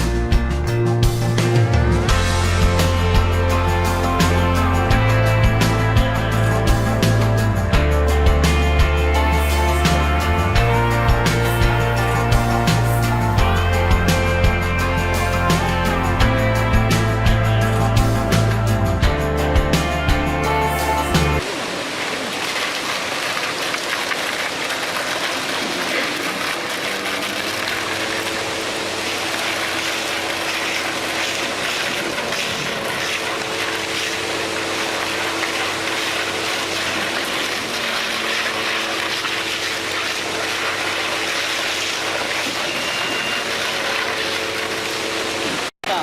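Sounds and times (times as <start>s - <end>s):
low engine-like hum: 0.0s - 45.7s.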